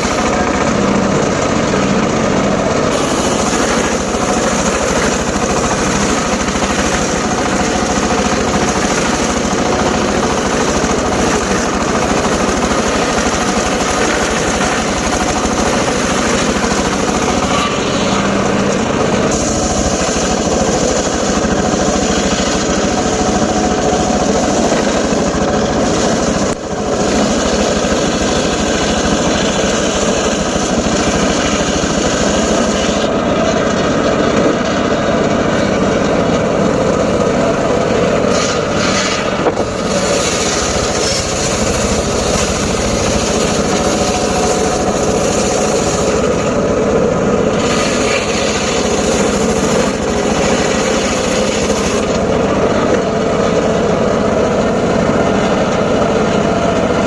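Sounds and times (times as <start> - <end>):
circular saw cutting wood: 0.0 - 57.0.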